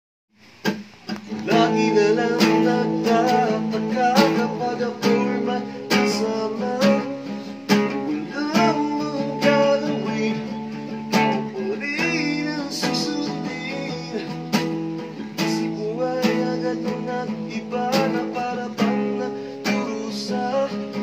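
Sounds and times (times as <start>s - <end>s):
acoustic guitar strumming: 0.4s - 21.0s
man singing: 1.3s - 21.0s.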